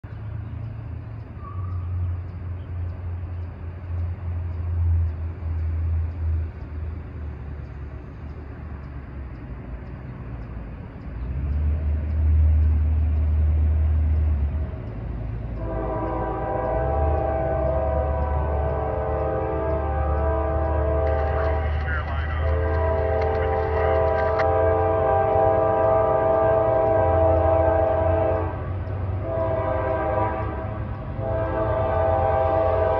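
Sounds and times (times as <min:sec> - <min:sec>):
distant vehicle engines rumbling: 0:00.0 - 0:32.9.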